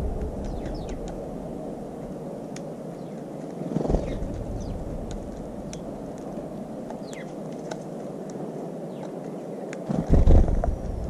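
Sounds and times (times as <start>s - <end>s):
small birds chirping: 0.0s - 10.5s
steady low rumble: 0.0s - 11.0s.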